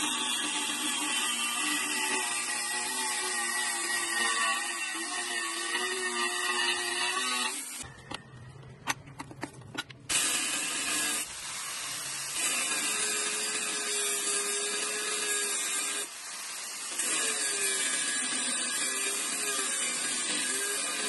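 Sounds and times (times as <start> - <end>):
angle grinder cutting steel: 0.0 - 8.2, 10.1 - 21.0.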